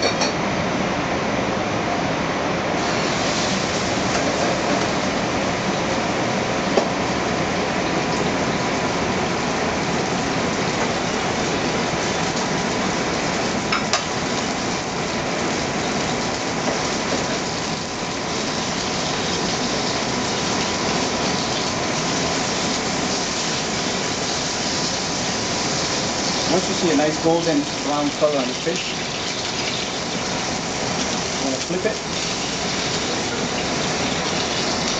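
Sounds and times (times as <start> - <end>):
fish sizzling in hot oil: 2.8 - 34.9.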